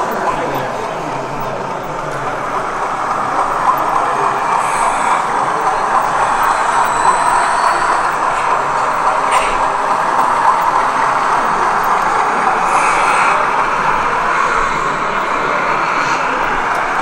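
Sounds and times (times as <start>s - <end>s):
model train on track: 0.0s - 17.0s
steady background din: 0.0s - 17.0s.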